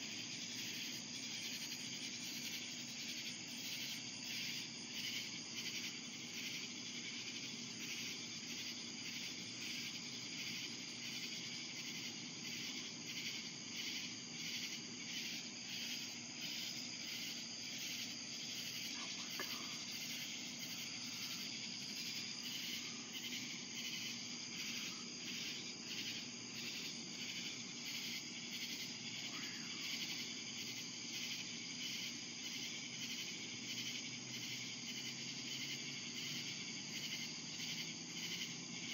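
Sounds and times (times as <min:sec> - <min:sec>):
night insects chirping: 0:00.0 - 0:38.9.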